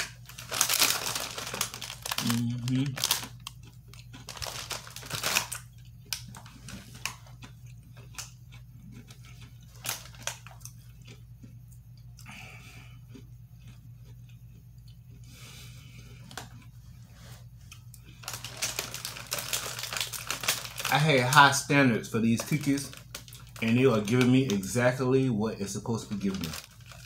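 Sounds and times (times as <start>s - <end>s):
person chewing crunchy cookies: 0.0s - 27.0s.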